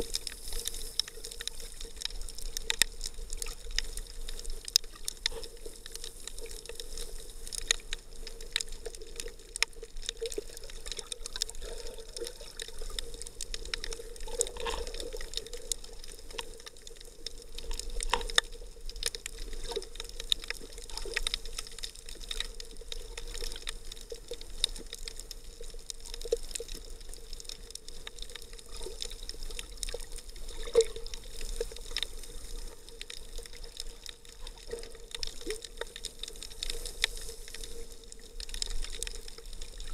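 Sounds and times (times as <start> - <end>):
muffled underwater water: 0.0 - 39.9.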